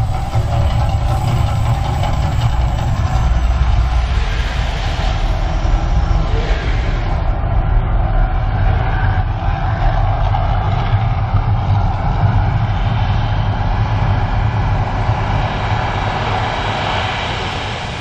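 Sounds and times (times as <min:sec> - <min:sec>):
deep eruption rumble: 0:00.0 - 0:18.0.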